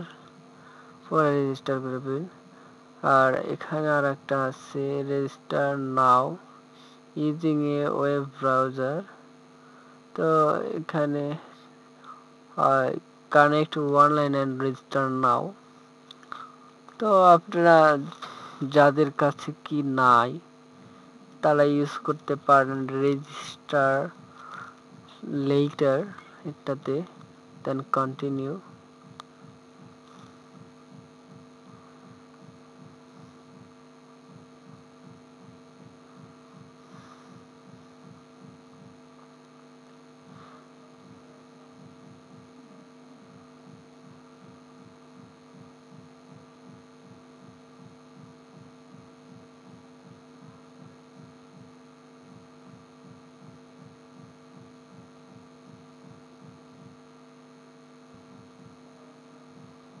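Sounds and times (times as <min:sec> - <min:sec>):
electrical hum with throbbing pulse: 0:00.0 - 1:00.0.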